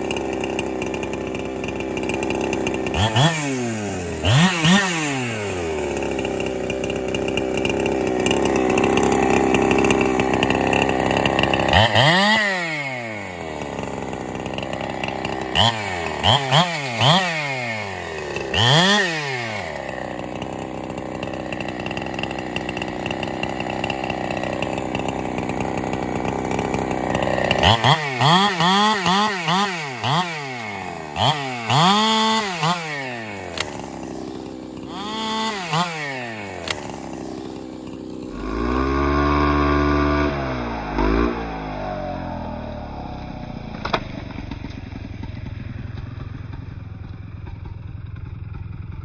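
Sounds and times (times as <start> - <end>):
chainsaw revving and cutting: 0.0 - 44.8.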